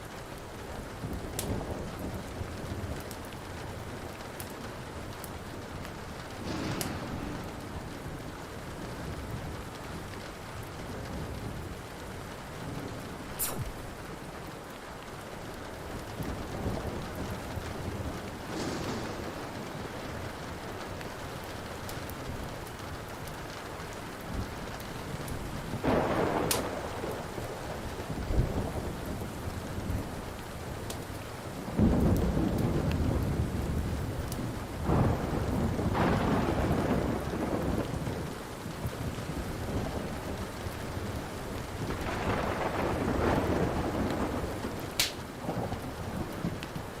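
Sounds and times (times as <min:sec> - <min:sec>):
steady rain: 0:00.0 - 0:47.0
wood fire crackling: 0:00.0 - 0:47.0
thunder rumbling: 0:00.7 - 0:14.5, 0:15.3 - 0:47.0.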